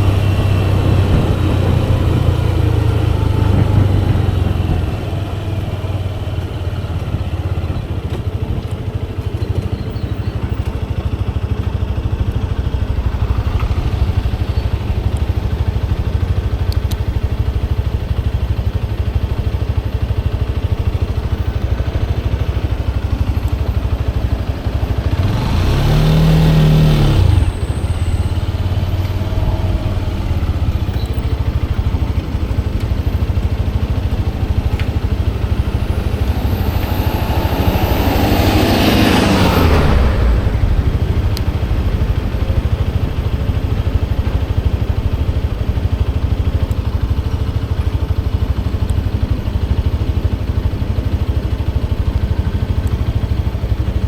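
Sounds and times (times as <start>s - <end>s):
engine passing by: 0.0s - 16.7s, 23.9s - 54.0s
motorcycle engine rumble: 0.0s - 54.0s
wind and road noise: 0.0s - 54.0s.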